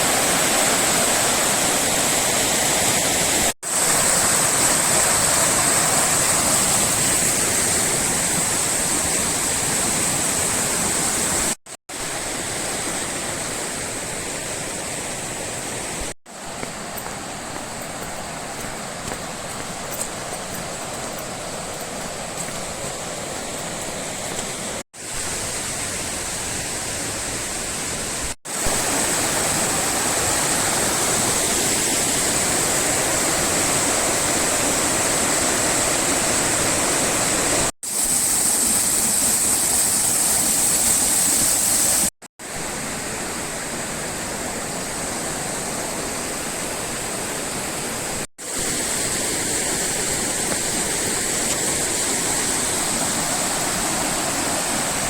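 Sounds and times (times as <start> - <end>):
river rushing over rapids: 0.0 - 55.0.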